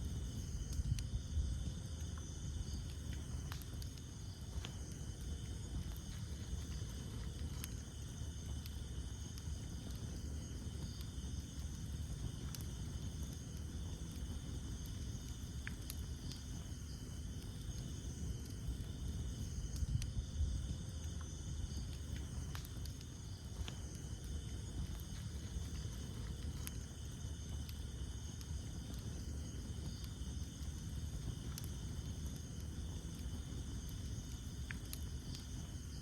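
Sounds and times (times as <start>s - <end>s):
burning wood crackling and popping: 0.0s - 36.0s
campfire flames rumbling: 0.0s - 36.0s
night insects chirping: 0.0s - 36.0s.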